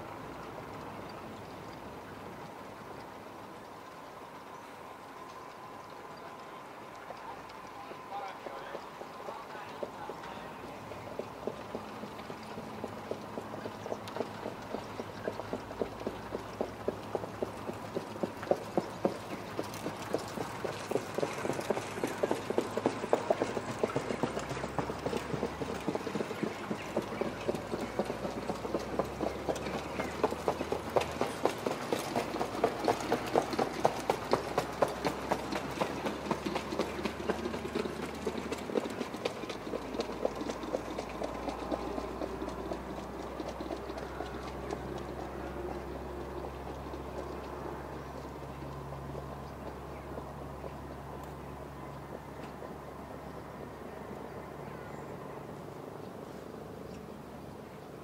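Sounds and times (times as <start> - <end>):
trotting hoofbeats on dirt: 0.0 - 55.6.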